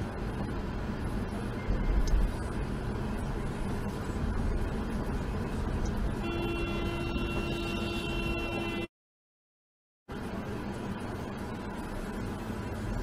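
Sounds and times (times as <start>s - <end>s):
car tyres and engine rumble: 0.0s - 8.9s, 10.1s - 13.0s.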